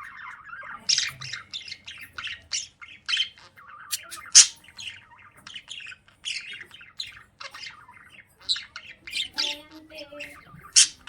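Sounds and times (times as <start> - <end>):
budgerigar chirping and squawking: 0.0 - 11.0.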